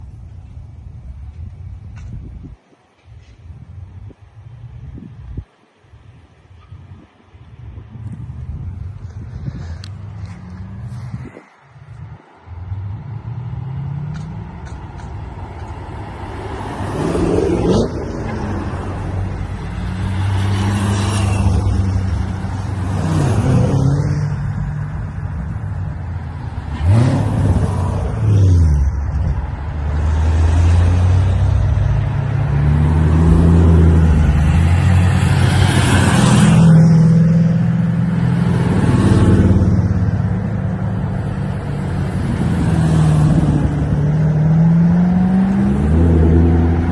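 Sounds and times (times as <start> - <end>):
cars driving past: 6.5 - 46.9.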